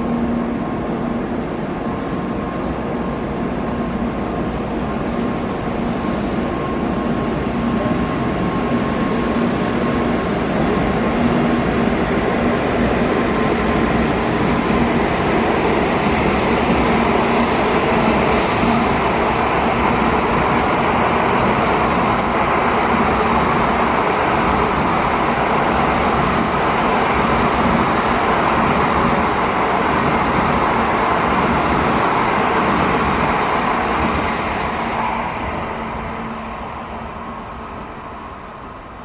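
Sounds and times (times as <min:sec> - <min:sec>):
train running past: 0:00.0 - 0:39.0.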